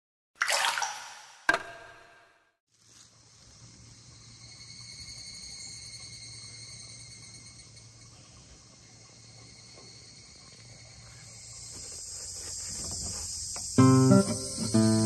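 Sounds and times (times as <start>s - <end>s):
insects trilling: 2.9s - 15.0s.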